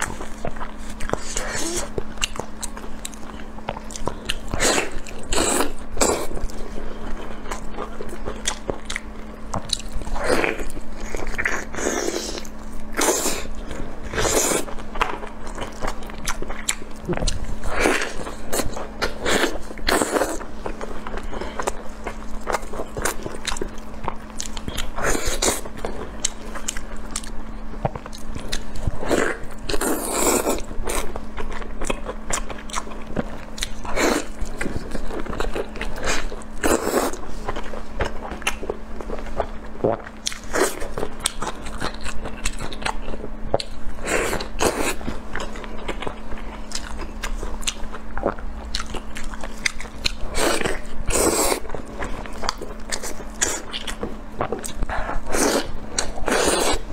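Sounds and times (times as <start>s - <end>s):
person biting and chewing meat: 0.0s - 56.9s
steady low hum: 0.0s - 56.9s.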